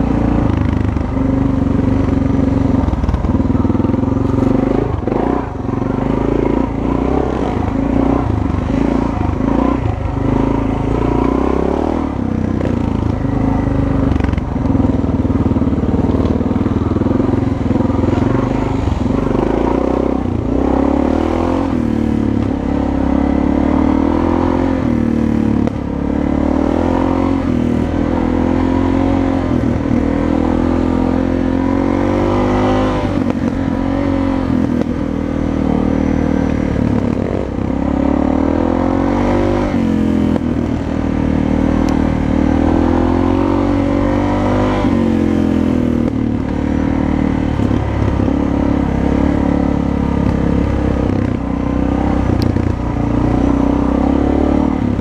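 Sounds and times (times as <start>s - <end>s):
dirt bike engine revving: 2.7s - 15.0s, 16.6s - 55.0s.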